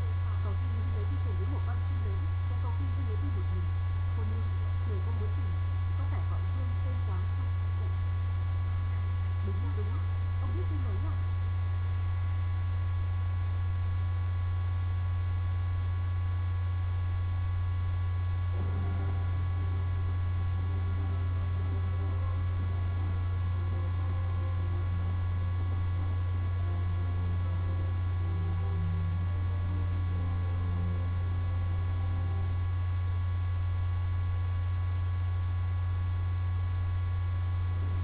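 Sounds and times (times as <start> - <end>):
faint broken low sounds: 0.0 - 38.0
low electrical hum: 0.0 - 38.0.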